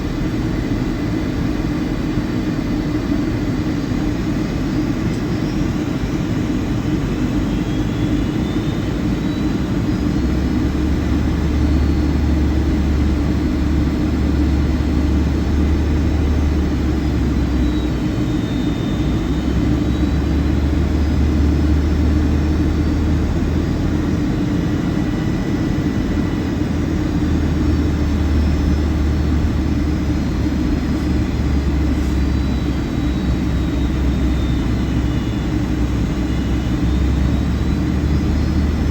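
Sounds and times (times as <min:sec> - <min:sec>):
airplane cabin air and engine noise: 0:00.0 - 0:38.9.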